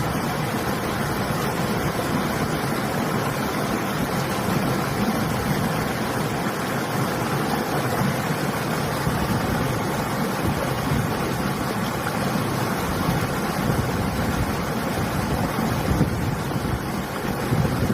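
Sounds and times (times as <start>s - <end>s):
river water rushing: 0.0s - 17.9s.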